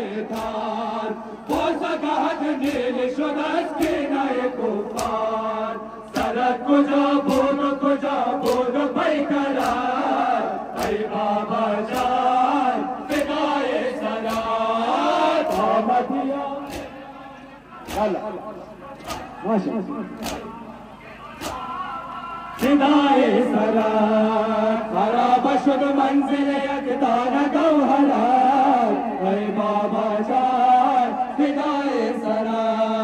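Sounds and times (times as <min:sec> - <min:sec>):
men chanting together: 0:00.0 - 0:33.0.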